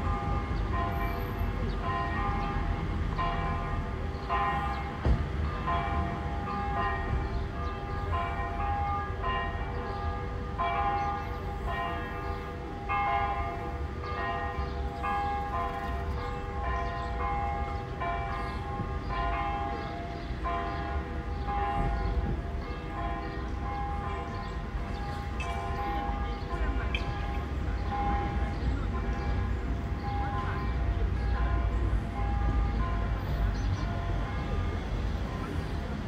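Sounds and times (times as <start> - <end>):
church bells pealing: 0.0 - 36.0.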